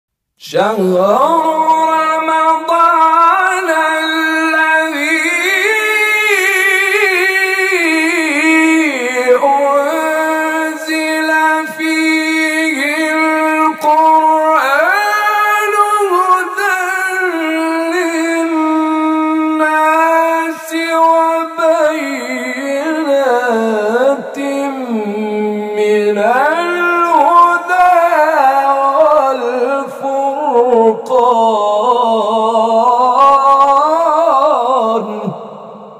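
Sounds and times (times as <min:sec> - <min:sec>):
man reciting in melodic chant: 0:00.4 - 0:35.9.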